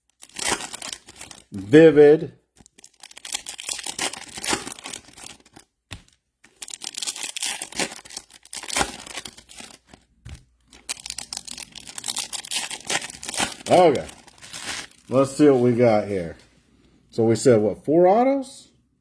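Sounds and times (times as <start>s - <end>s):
wrappers tearing and crinkling: 0.0s - 1.9s, 2.5s - 16.4s.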